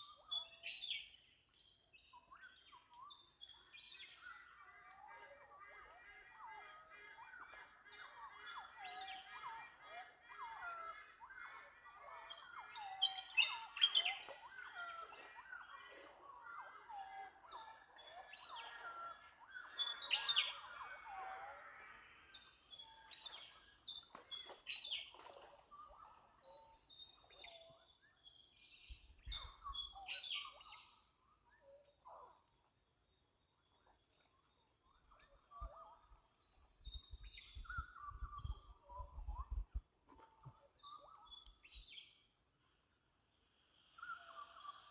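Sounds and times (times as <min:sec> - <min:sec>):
small birds chirping and singing: 0:00.0 - 0:44.9.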